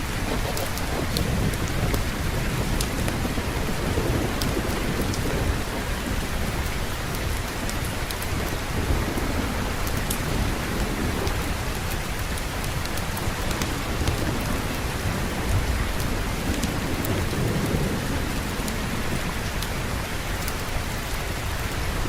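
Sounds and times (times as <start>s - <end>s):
heavy rain: 0.0s - 22.0s
low thunder rumble: 0.0s - 22.0s.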